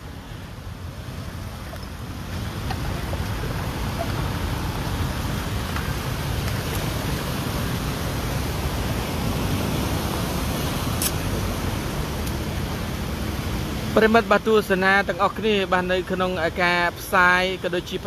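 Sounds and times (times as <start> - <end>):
water rushing across road: 0.0 - 18.0.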